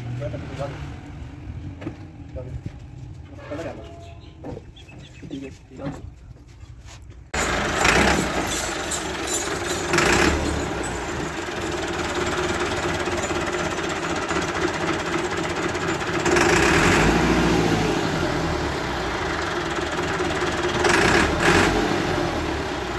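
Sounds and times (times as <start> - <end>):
tractor diesel engine clattering: 1.6 - 22.9.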